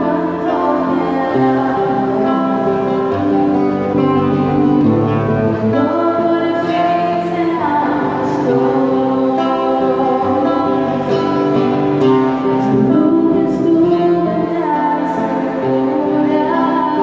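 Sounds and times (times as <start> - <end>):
woman singing slowly: 0.0 - 3.5, 5.6 - 11.6, 12.5 - 17.0
acoustic guitar: 0.0 - 17.0.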